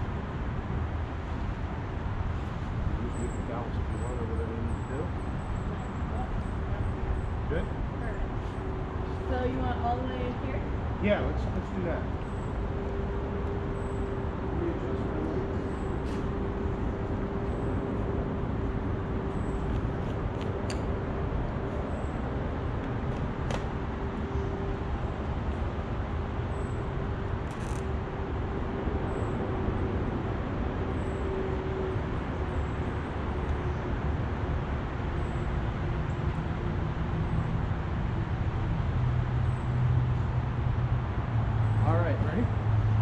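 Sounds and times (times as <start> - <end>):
distant road traffic rumble: 0.0 - 43.0.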